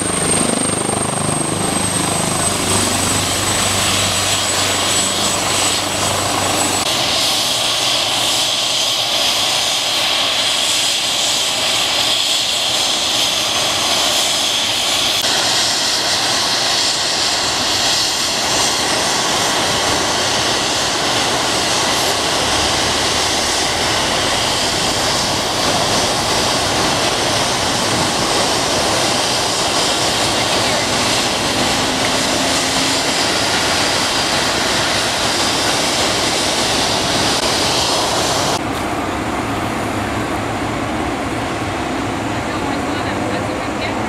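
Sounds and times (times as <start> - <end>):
rotor rushing: 0.0 - 38.7
high turbine whine: 0.0 - 44.0.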